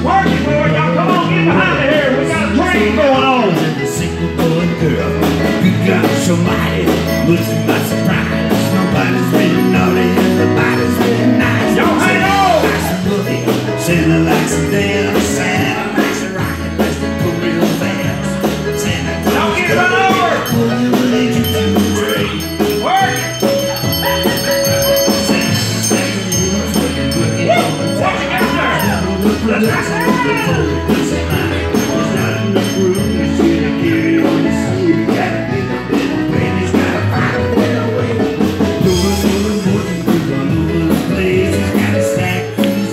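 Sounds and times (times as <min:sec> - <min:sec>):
man singing: 0:00.0 - 0:42.9
rock and roll band playing: 0:00.0 - 0:42.9.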